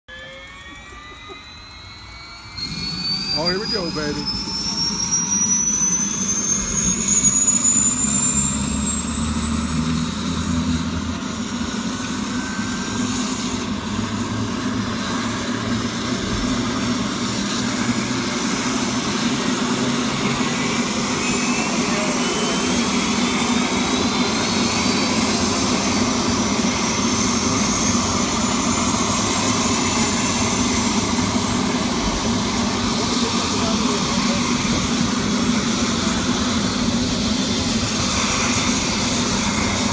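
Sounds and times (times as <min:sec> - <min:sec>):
turbine engine whine rising: 0:00.0 - 0:39.9
steady low drone: 0:00.1 - 0:39.9.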